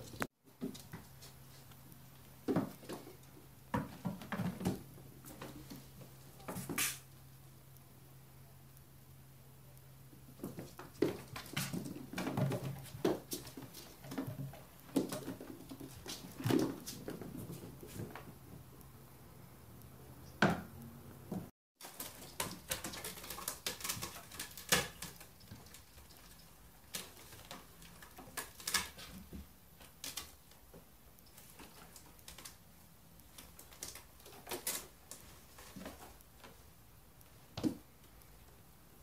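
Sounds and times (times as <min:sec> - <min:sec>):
kittens' paws tapping and scuffling: 0:00.0 - 0:07.1, 0:10.0 - 0:18.9, 0:21.3 - 0:38.7.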